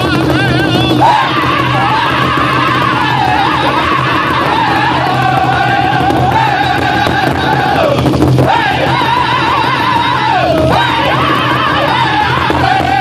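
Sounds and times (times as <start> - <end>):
group singing in wavering voices: 0.0 - 13.0
large drum beating: 0.0 - 13.0.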